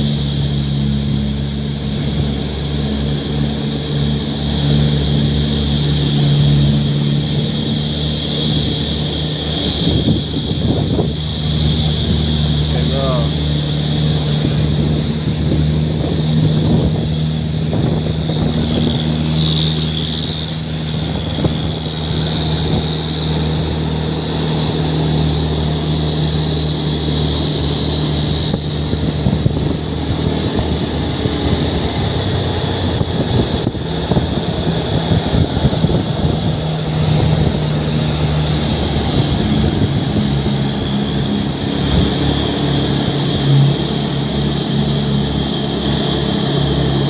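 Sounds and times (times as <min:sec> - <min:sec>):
diesel truck engine running: 0:00.0 - 0:47.0.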